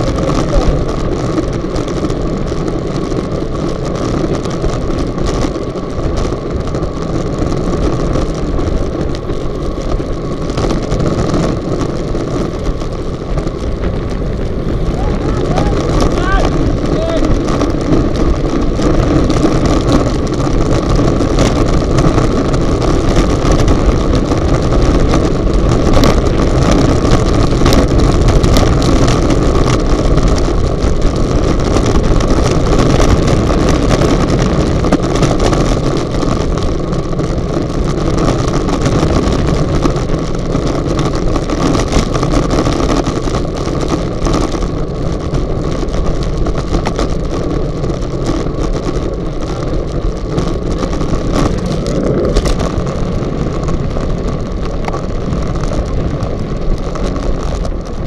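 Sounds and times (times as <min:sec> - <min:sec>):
road rumble: 0:00.0 - 0:58.0
wind rushing over microphone: 0:00.0 - 0:58.0.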